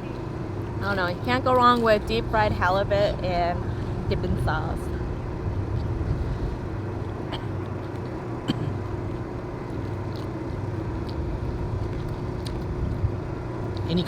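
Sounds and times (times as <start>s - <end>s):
faint steady whine: 0.0s - 14.0s
low engine hum: 0.0s - 14.0s.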